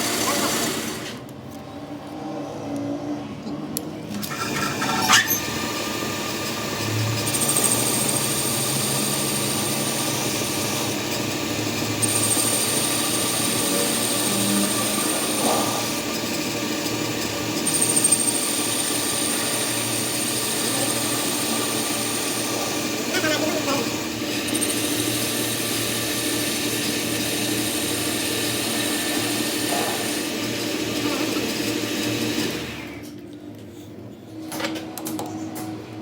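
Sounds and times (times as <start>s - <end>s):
power tool whining: 0.0s - 1.3s, 4.1s - 33.1s.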